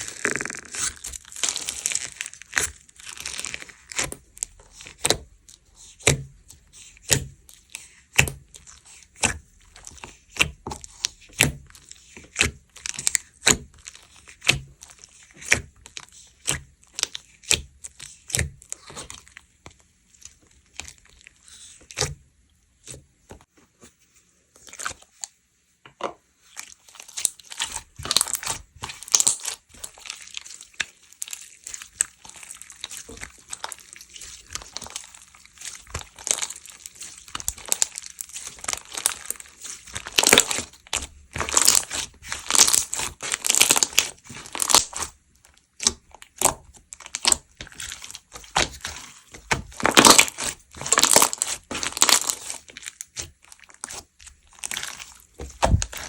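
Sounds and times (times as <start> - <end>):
slime crackling: 0.0 - 19.4, 26.4 - 56.0.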